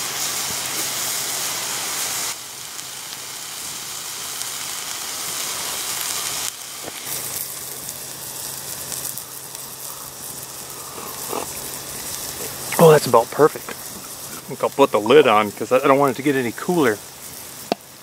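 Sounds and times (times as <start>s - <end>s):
burger patty sizzling: 0.0s - 18.0s.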